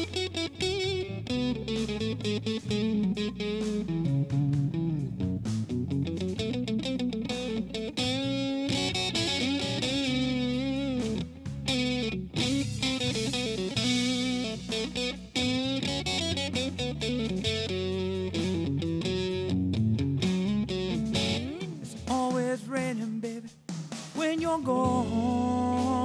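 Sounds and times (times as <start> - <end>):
low bass notes: 0.0 - 22.2, 24.6 - 26.0
electric guitar blues solo: 0.0 - 23.0, 24.7 - 26.0.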